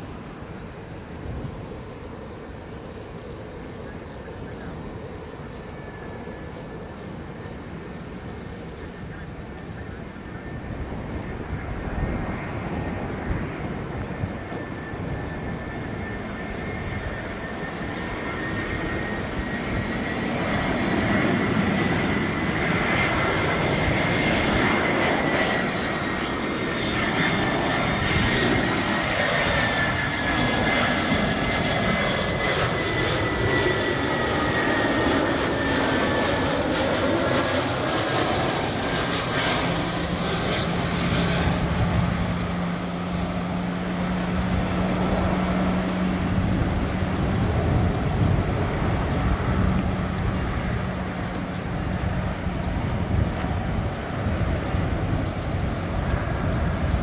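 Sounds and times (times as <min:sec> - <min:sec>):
jet airliner passing: 0:00.0 - 0:57.0.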